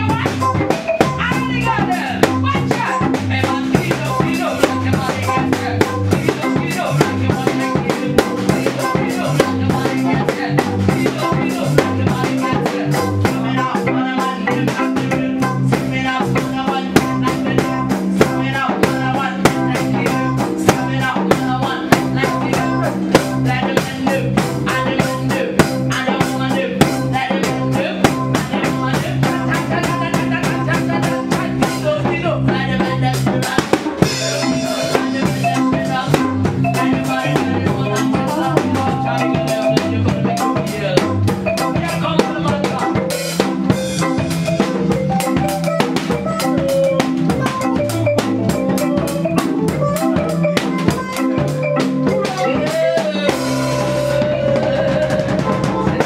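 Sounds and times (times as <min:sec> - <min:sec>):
woman singing: 0:00.0 - 0:41.0, 0:49.8 - 0:56.0
live band playing: 0:00.0 - 0:56.0.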